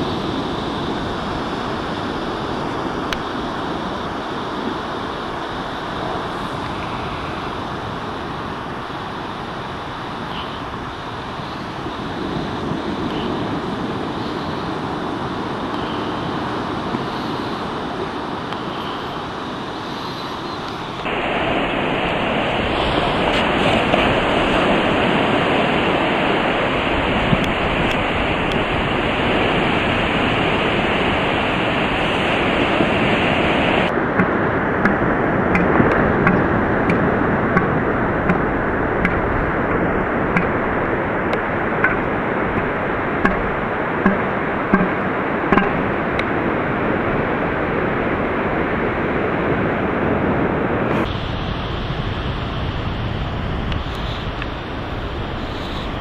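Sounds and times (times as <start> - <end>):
surf rushing: 0.0 - 56.0
wind on microphone: 0.0 - 56.0.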